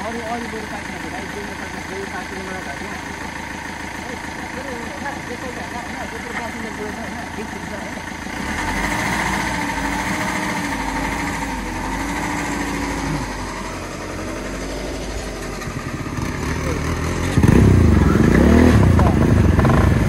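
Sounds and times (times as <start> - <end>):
motorcycle engine riding: 0.0 - 20.0.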